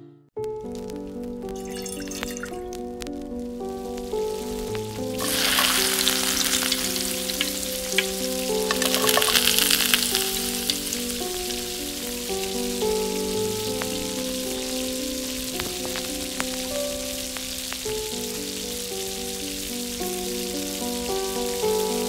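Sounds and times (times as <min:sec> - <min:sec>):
instrumental background music: 0:00.0 - 0:22.0
hot oil sizzling: 0:00.7 - 0:22.0.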